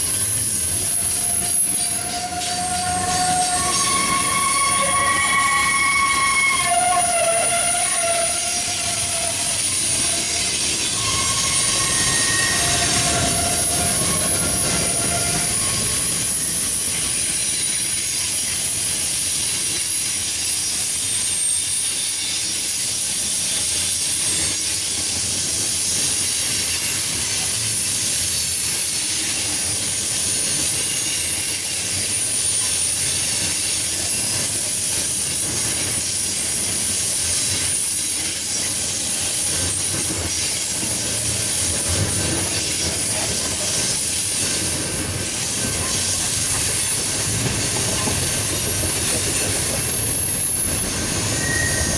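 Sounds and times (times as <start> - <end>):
train rumble: 0.0 - 21.3, 22.1 - 51.9
train wheels squealing: 0.0 - 51.9.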